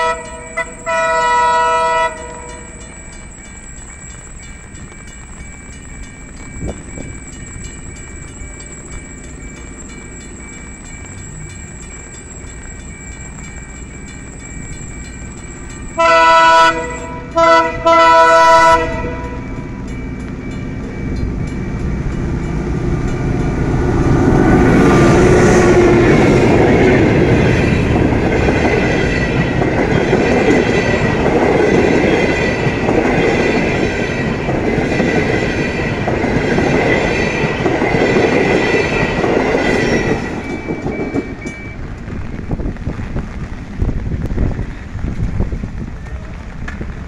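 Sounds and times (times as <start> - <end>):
high ringing tones: 0.0 - 17.4, 18.6 - 42.0
train rumble: 0.0 - 47.0.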